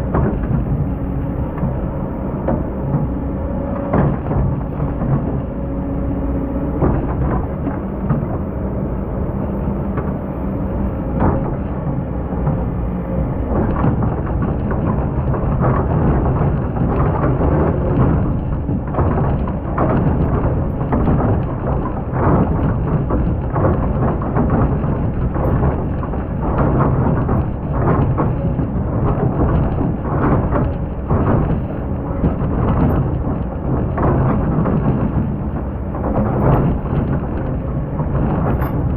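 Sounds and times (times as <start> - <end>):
diesel engine rumbling under load: 0.0 - 38.9.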